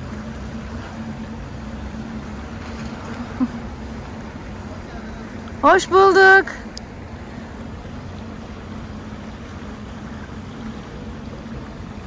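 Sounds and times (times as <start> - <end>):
boat engine droning: 0.0 - 12.0
water washing along hull: 0.0 - 12.0.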